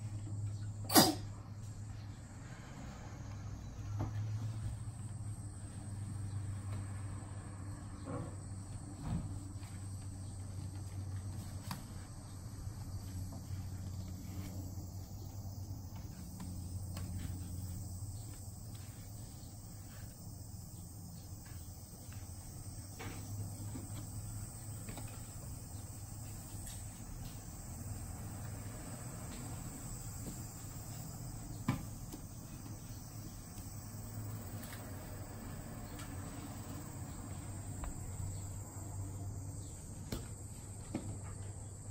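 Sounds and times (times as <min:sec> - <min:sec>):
insects chirring: 0:00.0 - 0:41.9.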